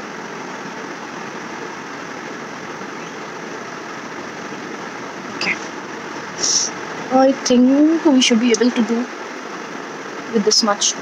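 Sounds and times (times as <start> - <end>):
steady rushing hiss: 0.0 - 11.0.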